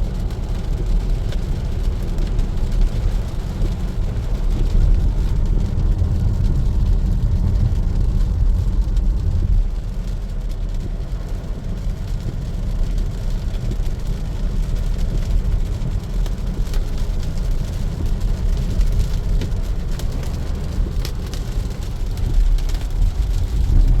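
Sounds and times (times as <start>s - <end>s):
tyres rumbling on wet road: 0.0s - 24.0s.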